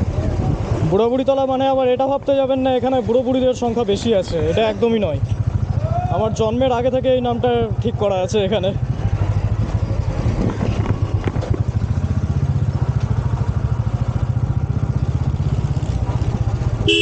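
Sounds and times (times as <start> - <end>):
motorcycle engine running: 1.7 - 17.0.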